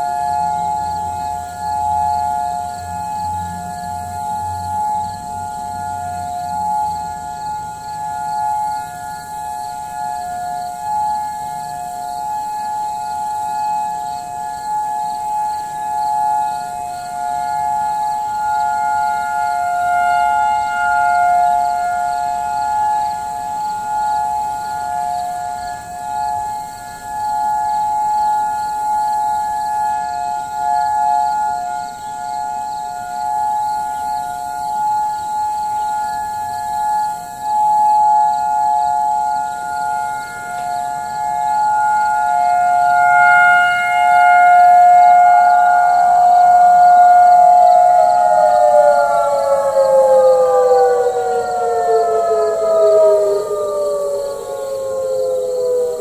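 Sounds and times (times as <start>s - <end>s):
distant warning sirens: 0.0s - 56.0s.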